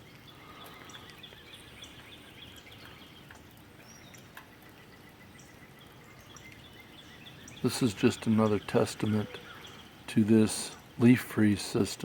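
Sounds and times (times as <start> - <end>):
songbirds chirping: 0.0 - 12.0
water running from downspout: 0.0 - 12.0.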